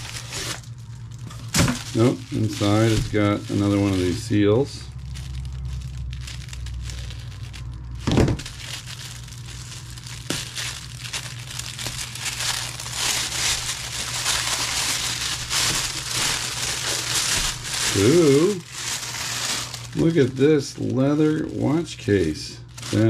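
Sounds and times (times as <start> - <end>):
tissue paper crinkling: 0.0 - 23.0.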